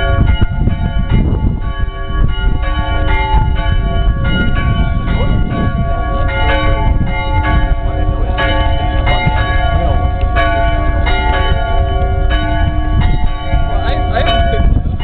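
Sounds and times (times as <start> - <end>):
church bells ringing: 0.0 - 15.0
low rumble: 0.0 - 15.0.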